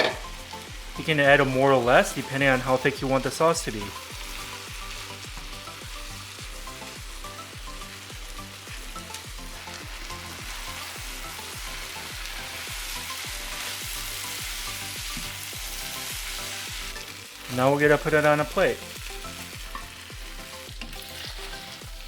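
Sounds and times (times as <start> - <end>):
background music with beat: 0.0 - 22.0
stir-fry sizzling in a pan: 0.0 - 22.0.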